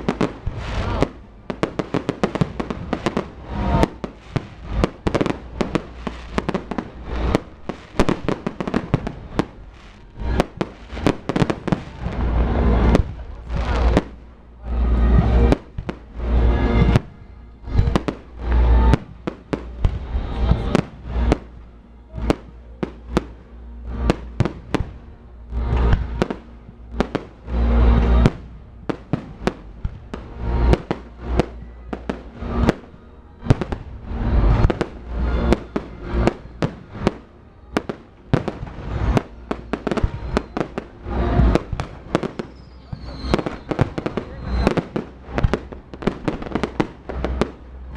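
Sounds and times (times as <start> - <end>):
deep firework booms: 0.0 - 47.9
fireworks bangs and crackles: 0.0 - 47.9
music: 0.0 - 47.9.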